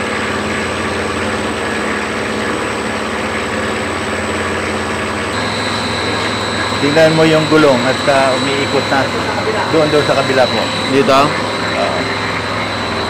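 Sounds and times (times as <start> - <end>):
electric motor hum: 0.0 - 13.0
high whine: 0.0 - 13.0.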